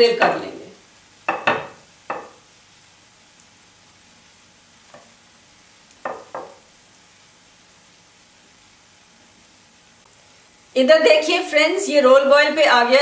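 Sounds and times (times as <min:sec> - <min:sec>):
butter sizzling in bursts: 0:00.0 - 0:13.0.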